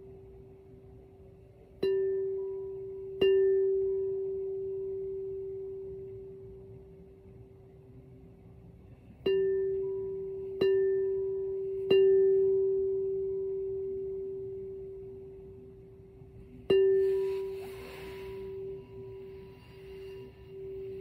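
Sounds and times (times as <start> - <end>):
crystal singing bowl ringing: 0.0 - 7.2, 9.2 - 21.0.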